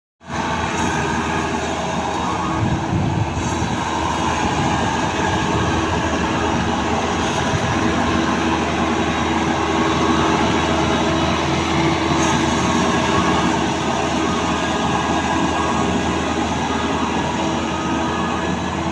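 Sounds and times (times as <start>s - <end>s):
combine harvester running under load: 0.2s - 18.9s.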